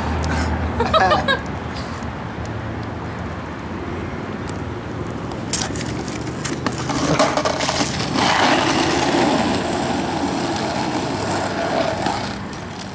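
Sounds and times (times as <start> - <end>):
skateboard wheels rolling on asphalt: 1.9 - 12.9.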